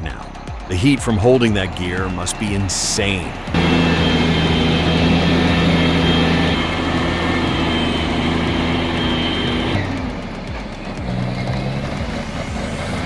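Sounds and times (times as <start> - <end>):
truck diesel engine under load: 0.0 - 13.0.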